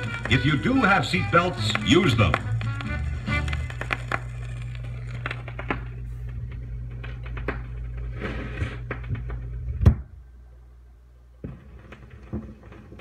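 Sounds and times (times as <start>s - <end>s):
record surface crackle and clicks: 0.0s - 10.1s, 11.4s - 13.0s
steady low hum: 2.2s - 13.0s.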